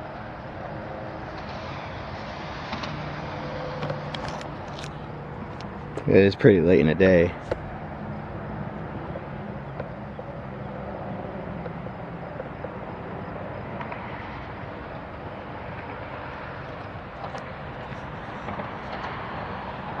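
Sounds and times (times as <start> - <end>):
locomotive engine drone: 0.0 - 20.0.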